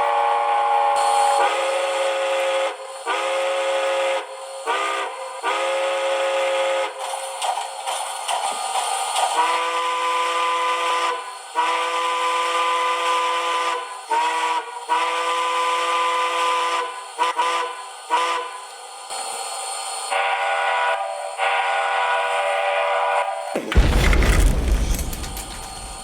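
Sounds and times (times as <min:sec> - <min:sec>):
steam locomotive whistle: 0:00.0 - 0:07.3, 0:09.2 - 0:19.4, 0:20.0 - 0:23.9
steam hiss: 0:00.2 - 0:26.0.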